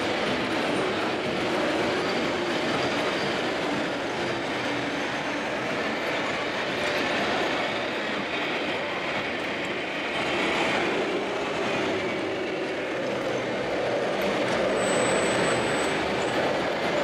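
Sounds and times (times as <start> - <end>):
busy exhibition hall background noise: 0.0 - 17.0.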